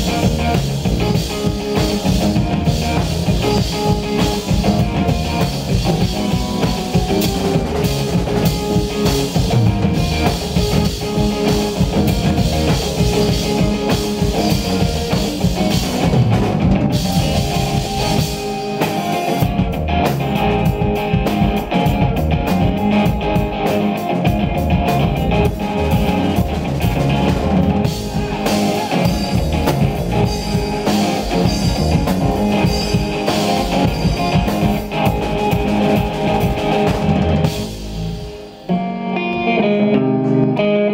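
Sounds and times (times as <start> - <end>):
drum kit: 0.0 - 40.6
bass guitar: 0.0 - 40.9
electric guitar: 0.0 - 40.9.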